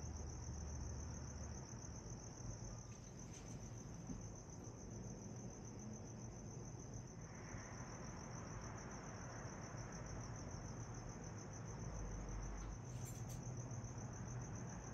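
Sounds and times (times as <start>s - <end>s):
crickets chirping: 0.0s - 14.9s.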